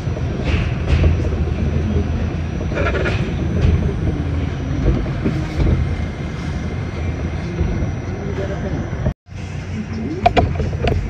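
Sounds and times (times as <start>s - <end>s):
subway wheels rumbling on rails: 0.0s - 11.0s.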